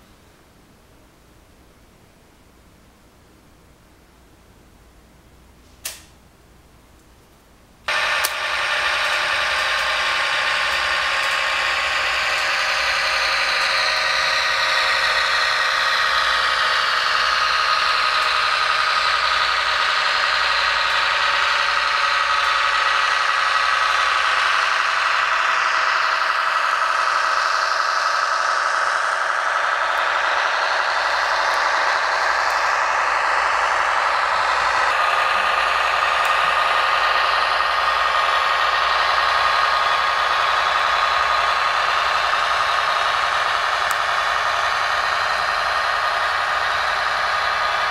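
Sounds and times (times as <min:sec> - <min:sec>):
model railcar engine sound: 0:07.2 - 0:47.9.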